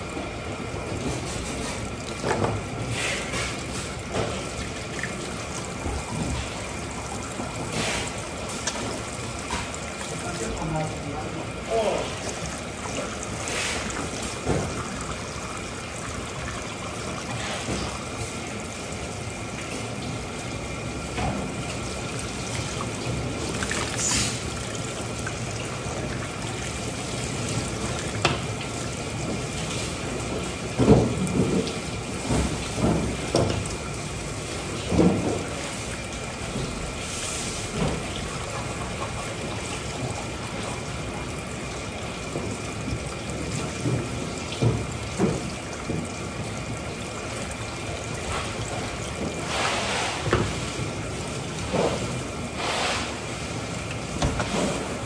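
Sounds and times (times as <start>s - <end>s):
water running steadily: 0.0s - 55.0s.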